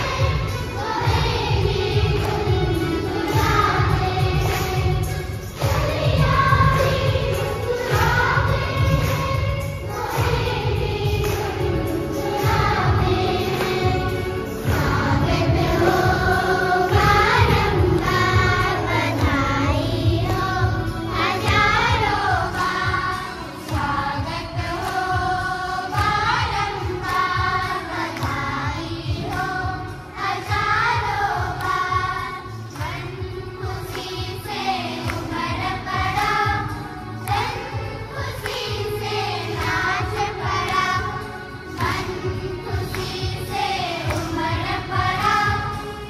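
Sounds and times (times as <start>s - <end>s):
children singing a hymn: 0.0s - 46.0s.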